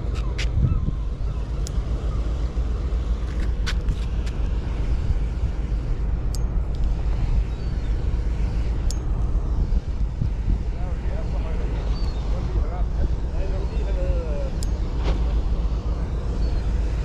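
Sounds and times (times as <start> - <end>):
low rumbling noise: 0.0 - 17.0.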